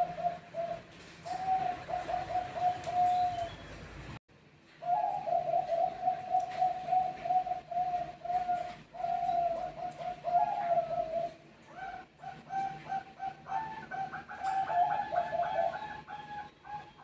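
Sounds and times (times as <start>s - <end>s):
dove cooing: 0.0s - 3.7s, 4.8s - 17.0s.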